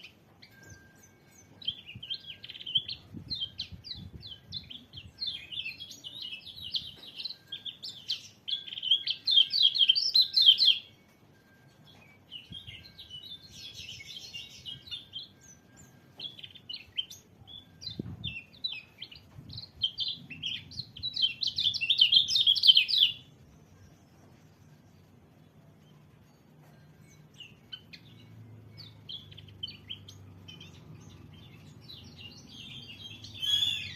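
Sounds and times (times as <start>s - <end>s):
bird twittering chirps: 0.0s - 11.1s, 11.8s - 33.9s.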